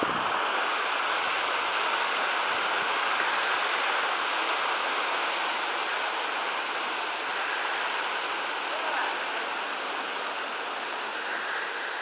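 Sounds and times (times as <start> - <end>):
water flowing: 0.0 - 12.0.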